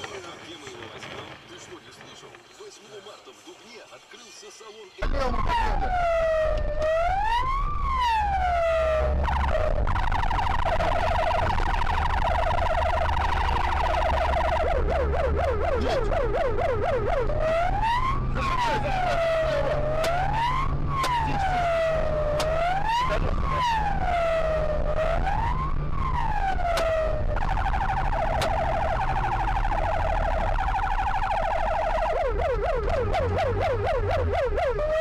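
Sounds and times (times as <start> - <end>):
low engine hum: 5.0 - 35.0
police siren: 5.0 - 35.0.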